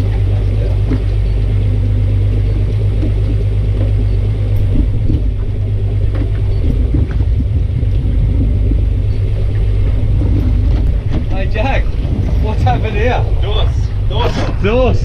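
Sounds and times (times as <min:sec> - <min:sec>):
motorboat motor rumble: 0:00.0 - 0:15.0
wind on microphone: 0:00.0 - 0:15.0.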